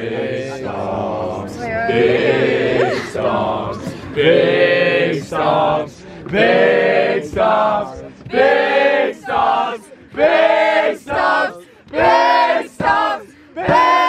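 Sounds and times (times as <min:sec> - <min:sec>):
group chanting in unison: 0:00.0 - 0:14.0.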